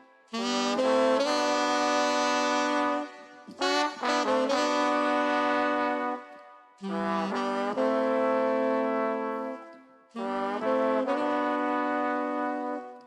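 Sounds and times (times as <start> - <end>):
saxophone and brass ska melody: 0.0 - 13.0.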